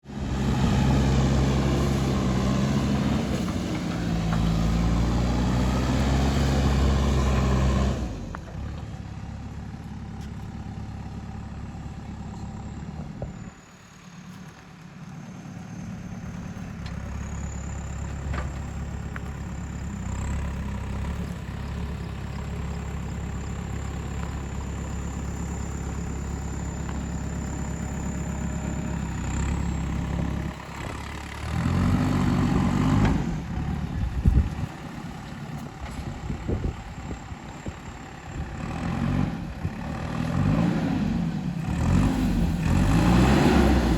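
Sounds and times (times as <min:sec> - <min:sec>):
diesel engine of earthmover running: 0:00.0 - 0:43.9.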